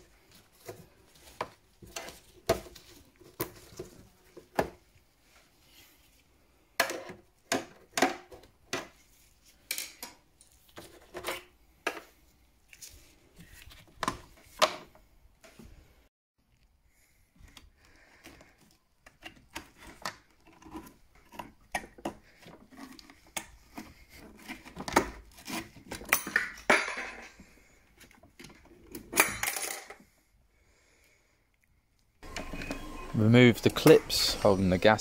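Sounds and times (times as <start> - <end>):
hands working boiler parts: 0.0 - 16.7, 17.3 - 30.1, 32.2 - 35.0.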